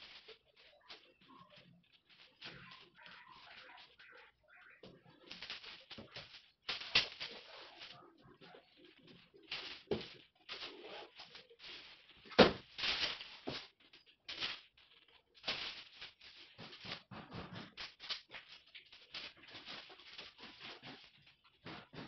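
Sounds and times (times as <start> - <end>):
plastic wrap crackling and rustling: 0.0 - 22.0.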